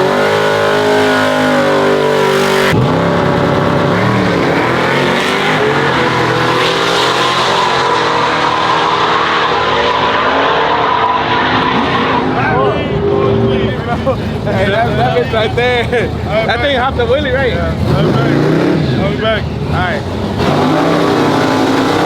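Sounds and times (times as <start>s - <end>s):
truck engines revving high: 0.0s - 22.0s.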